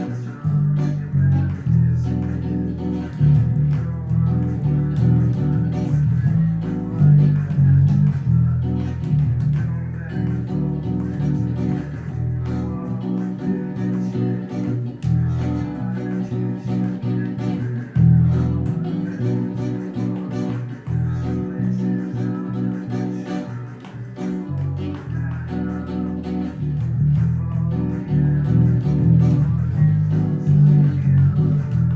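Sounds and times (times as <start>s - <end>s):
bass line: 0.0s - 31.9s
plucked and strummed guitar: 0.0s - 31.9s.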